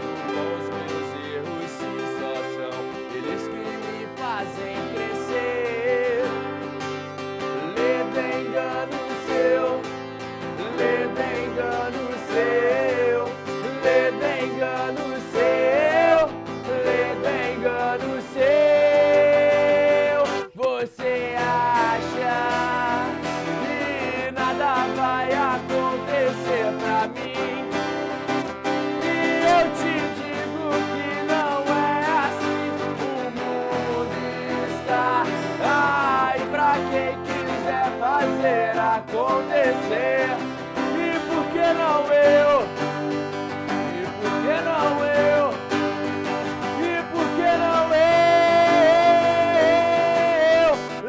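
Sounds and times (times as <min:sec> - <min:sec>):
band playing guitar music: 0:00.0 - 0:51.0
lead guitar with bending notes: 0:00.0 - 0:51.0.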